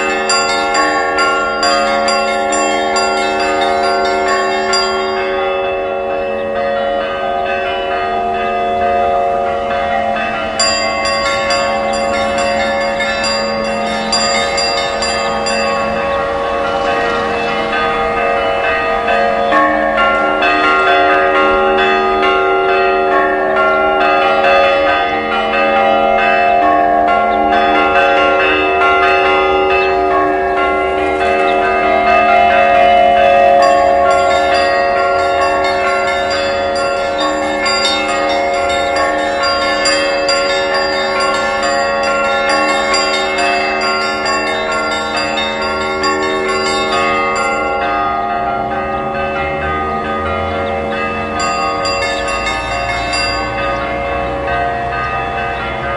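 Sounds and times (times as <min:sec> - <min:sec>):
church bells ringing: 0:00.0 - 0:55.9
small high-pitched bells: 0:00.0 - 0:55.9.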